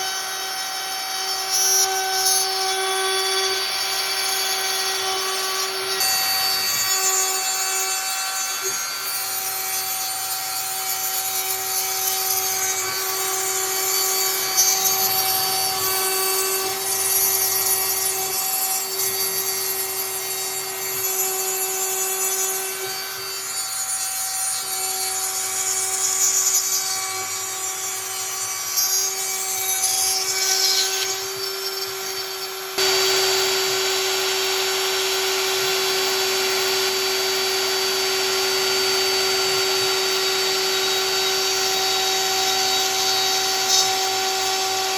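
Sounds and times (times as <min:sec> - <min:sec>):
bit rasping through wood: 0:00.0 - 0:44.9
router spindle whining: 0:00.0 - 0:44.9.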